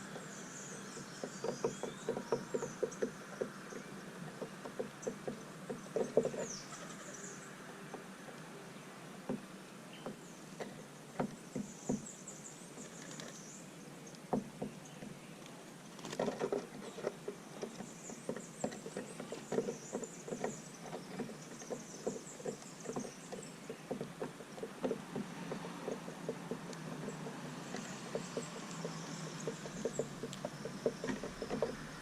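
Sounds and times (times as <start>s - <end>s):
birds pecking seed: 0.0s - 32.0s.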